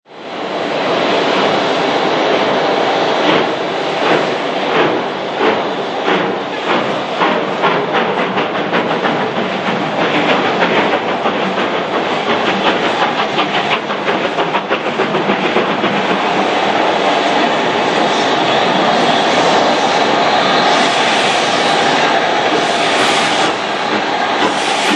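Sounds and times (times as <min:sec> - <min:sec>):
steam locomotive exhaust beats: 0:02.4 - 0:24.9.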